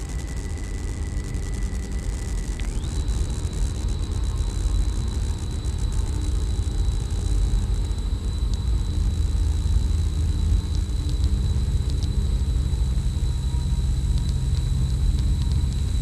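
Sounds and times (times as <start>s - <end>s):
high-pitched steady tone: 0.0s - 16.0s
rumbling noise drone: 0.0s - 16.0s.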